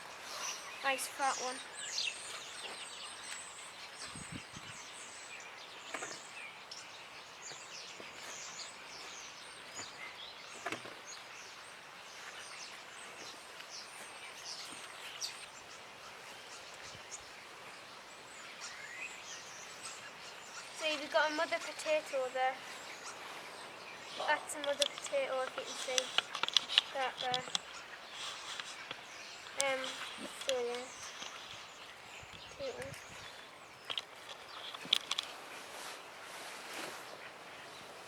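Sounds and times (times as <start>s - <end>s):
outdoor background noise: 0.0s - 38.0s
small birds chirping: 0.0s - 38.0s.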